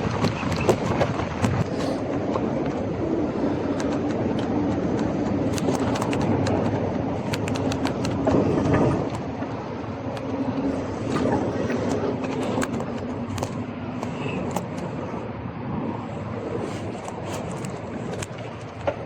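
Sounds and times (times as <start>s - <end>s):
bike rattling clicks: 0.0s - 2.8s, 3.6s - 15.0s, 16.7s - 19.0s
bike tyres rumbling on street: 0.0s - 19.0s.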